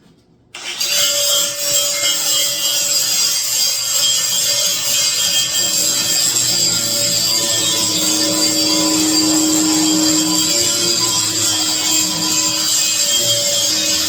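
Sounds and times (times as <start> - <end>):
power grinder grinding steel: 0.6 - 14.0.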